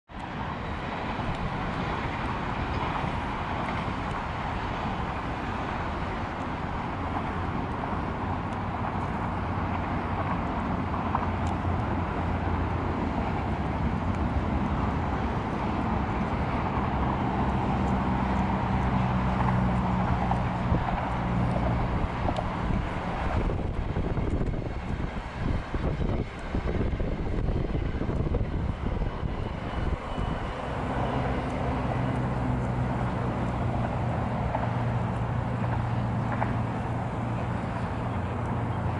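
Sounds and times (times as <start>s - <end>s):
distant traffic rumble: 0.1s - 38.9s
low engine drone: 0.1s - 38.9s.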